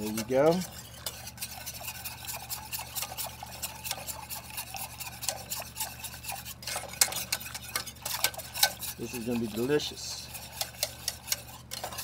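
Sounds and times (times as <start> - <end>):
whisk scraping a metal saucepan: 0.0 - 12.0.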